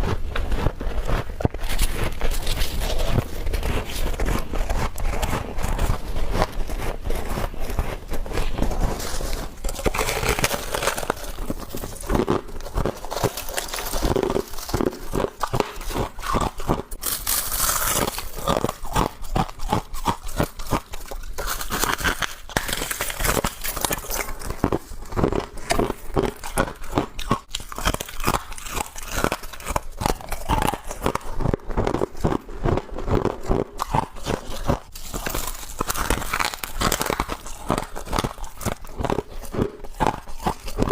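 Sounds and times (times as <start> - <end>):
person chewing crunchy frost: 0.0 - 40.9.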